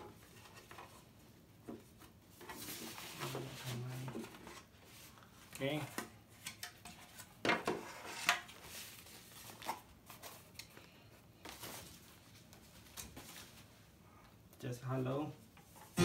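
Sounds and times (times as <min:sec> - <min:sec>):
plastic and cardboard rustling: 0:00.0 - 0:13.9.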